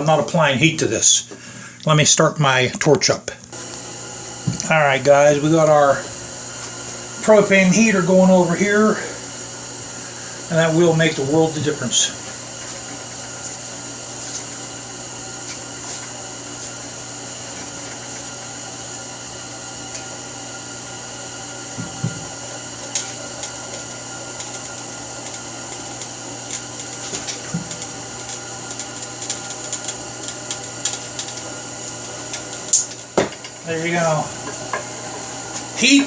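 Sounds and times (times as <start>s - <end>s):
propane torch hissing: 3.5s - 36.0s.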